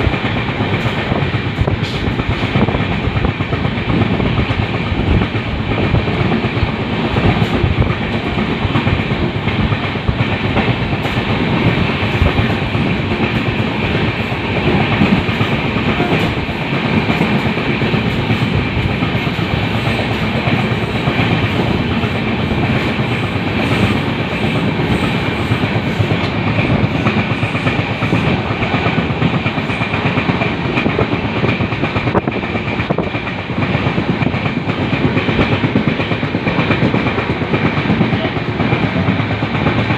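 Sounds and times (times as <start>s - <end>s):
clickety-clack of rail joints: 0.0s - 39.9s
train wheels rumbling on track: 0.0s - 39.9s.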